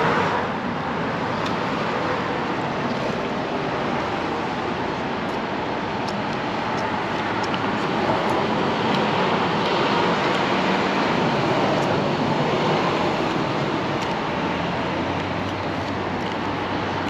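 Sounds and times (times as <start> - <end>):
vehicle rushing hum: 0.0 - 17.0.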